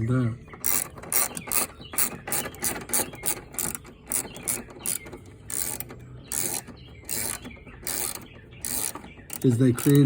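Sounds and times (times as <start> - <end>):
socket ratchet clicking: 0.6 - 10.0.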